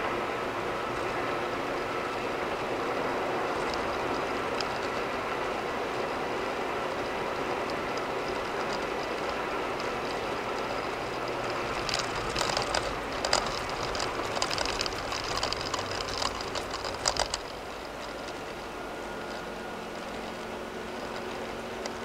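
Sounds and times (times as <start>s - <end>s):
car tyre and road noise: 0.0s - 22.0s.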